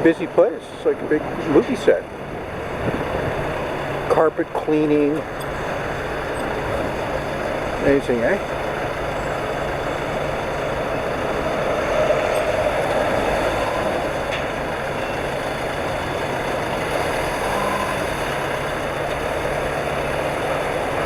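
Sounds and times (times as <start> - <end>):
engine running with low hum: 0.0 - 21.0.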